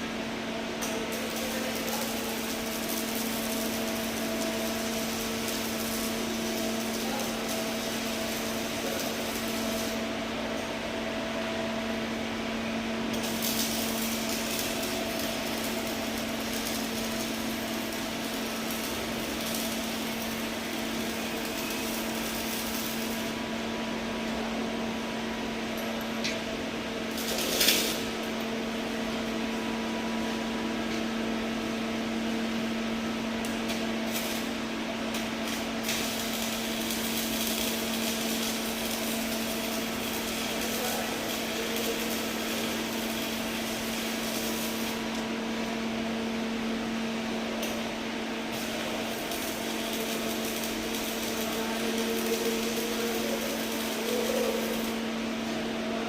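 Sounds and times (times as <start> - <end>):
welding arc crackling hiss: 0.0 - 55.8
machine hum: 0.0 - 56.0.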